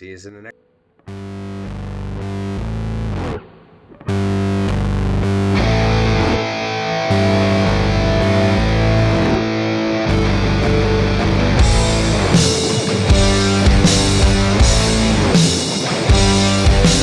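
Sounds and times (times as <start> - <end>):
rock music with electric guitar: 2.3 - 17.0.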